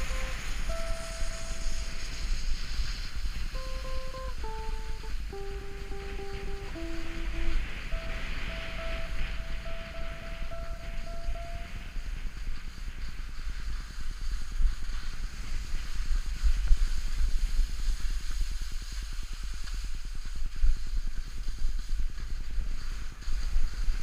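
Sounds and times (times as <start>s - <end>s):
skis hissing over snow: 0.0s - 24.0s
wind buffeting microphone: 0.0s - 24.0s.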